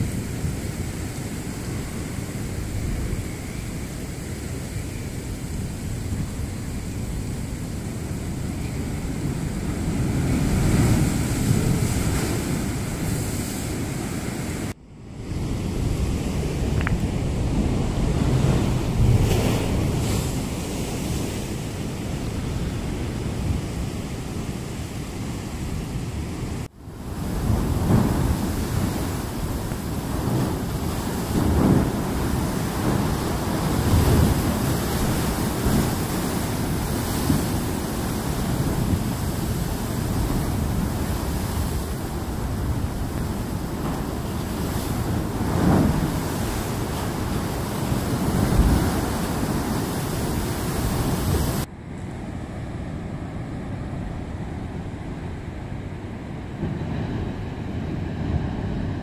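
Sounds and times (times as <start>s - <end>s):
wind buffeting microphone: 0.0s - 52.0s
distant surf: 0.0s - 59.0s
heavy ocean surf surging: 0.0s - 59.0s.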